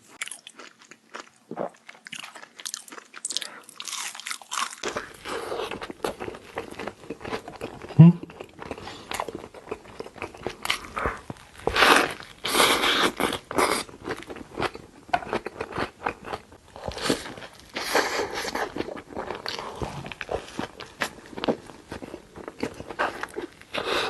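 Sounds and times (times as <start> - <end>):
person chewing a burger: 0.0 - 24.0.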